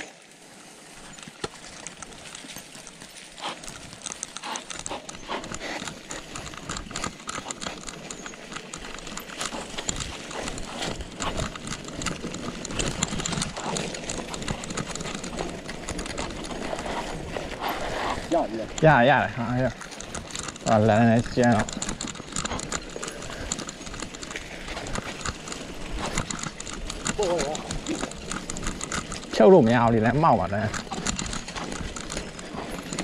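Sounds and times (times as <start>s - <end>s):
bike rattling: 0.0s - 33.0s
bike tyres rolling: 0.0s - 33.0s.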